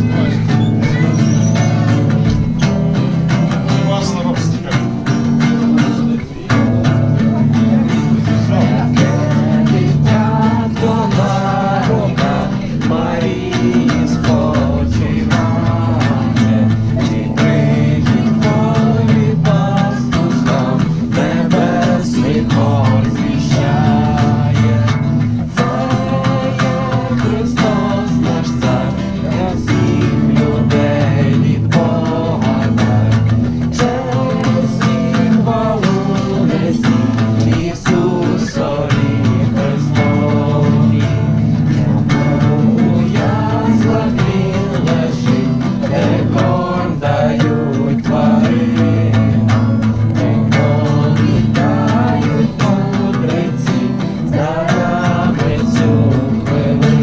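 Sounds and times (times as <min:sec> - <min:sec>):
acoustic guitar strumming: 0:00.0 - 0:57.0
group singing a carol: 0:00.0 - 0:57.0.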